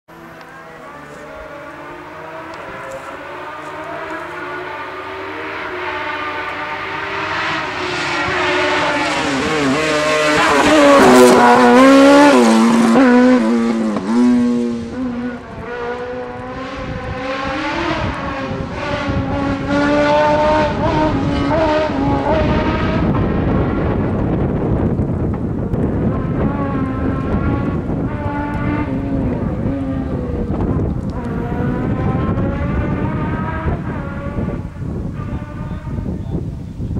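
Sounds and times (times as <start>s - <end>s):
racing car accelerating with gear changes: 0.1s - 36.2s.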